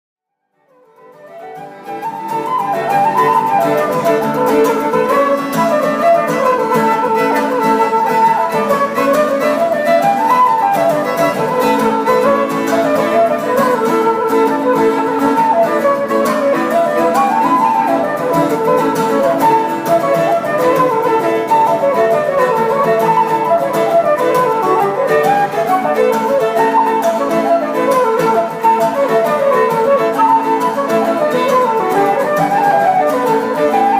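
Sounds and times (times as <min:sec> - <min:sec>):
flute melody: 0:00.6 - 0:33.9
plucked guitar: 0:00.6 - 0:33.9.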